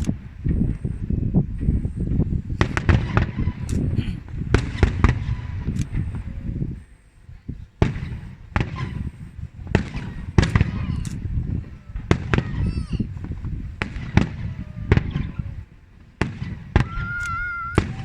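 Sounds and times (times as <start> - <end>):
continuous low rumble: 0.0 - 18.0
fireworks bursting with sharp bangs: 0.0 - 18.0.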